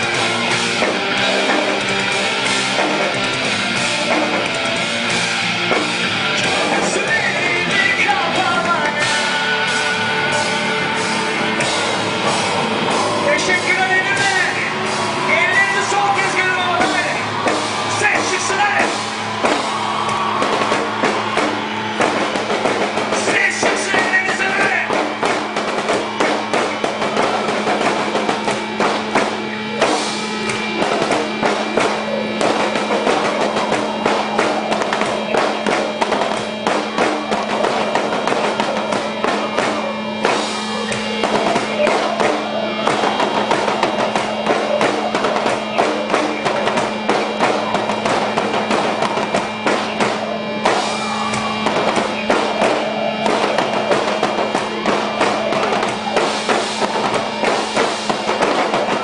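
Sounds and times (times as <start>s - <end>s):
drum kit played rapidly: 0.0s - 59.0s.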